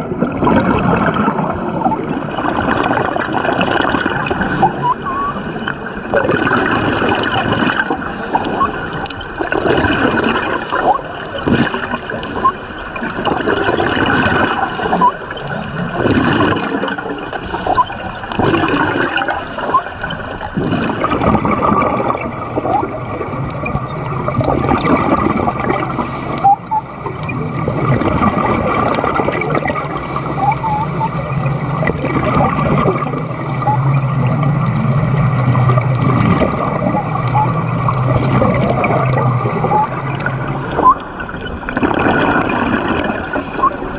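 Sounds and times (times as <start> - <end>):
underwater bubbling and gurgling: 0.0 - 43.9.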